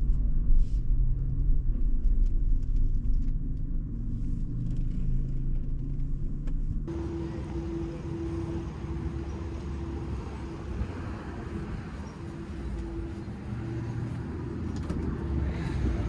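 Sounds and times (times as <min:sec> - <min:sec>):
car engine and road rumble: 0:00.0 - 0:16.0
steady low hum: 0:00.0 - 0:16.0.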